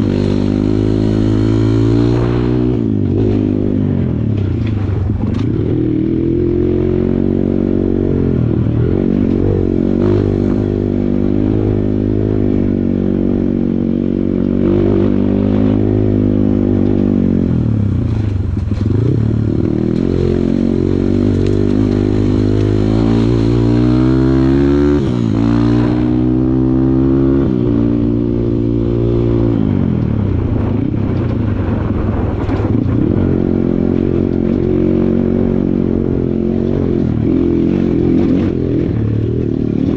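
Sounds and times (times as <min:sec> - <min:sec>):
trail bike engine under load: 0:00.0 - 0:39.9.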